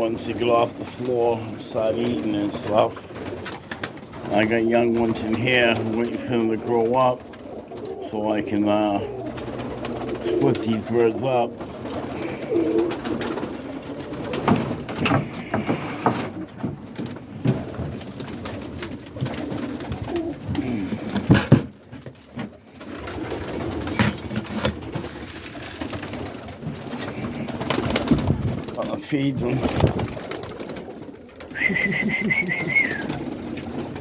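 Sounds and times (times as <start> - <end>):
pigeons cooing: 0.0 - 34.0
wings fluttering: 0.3 - 8.1, 8.8 - 34.0.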